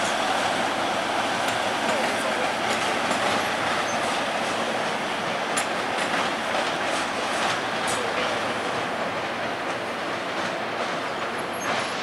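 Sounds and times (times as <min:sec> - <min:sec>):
train engine and wheels rumbling: 0:00.0 - 0:12.0
sharp rail clicks: 0:01.3 - 0:12.0.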